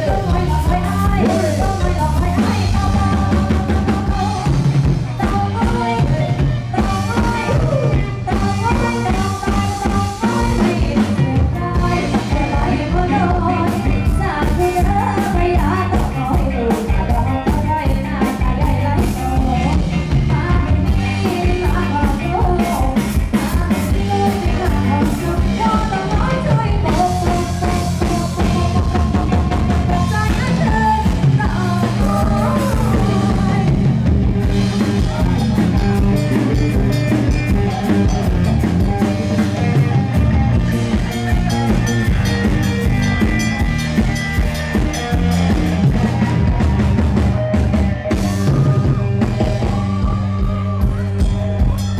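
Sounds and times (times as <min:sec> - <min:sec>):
drum kit: 0:00.0 - 0:51.9
electric guitar: 0:00.0 - 0:51.9
person singing: 0:00.0 - 0:51.9.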